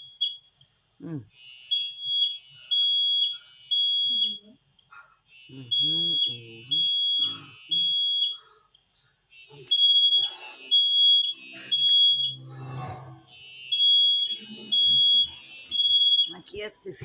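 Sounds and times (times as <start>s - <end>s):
fire alarm beeps: 0.0s - 0.6s, 1.3s - 17.0s.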